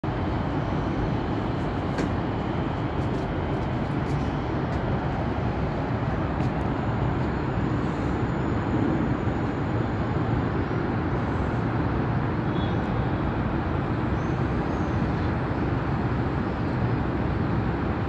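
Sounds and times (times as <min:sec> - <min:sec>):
outdoor rumble with hiss: 0:00.0 - 0:18.0.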